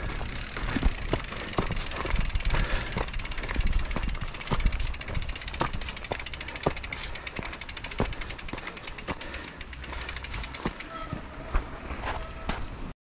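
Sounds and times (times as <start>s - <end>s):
tyres crunching over gravel: 0.0s - 12.7s
bike knocking and rattling: 0.0s - 12.9s.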